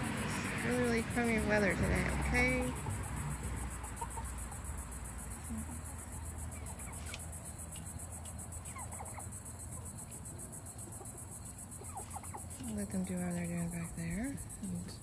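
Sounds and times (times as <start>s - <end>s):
chickens clucking: 0.0s - 13.9s
crickets chirping: 0.0s - 15.0s.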